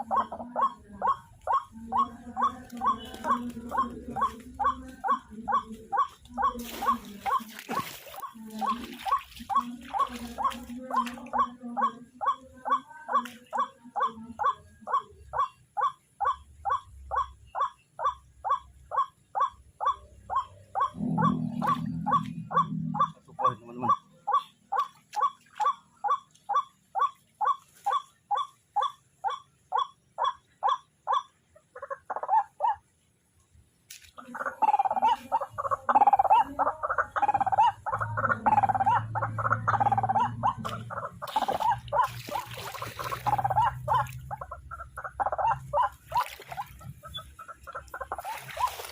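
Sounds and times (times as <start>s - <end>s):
waterhen harsh repeated calls: 0.0s - 32.8s, 34.0s - 48.9s.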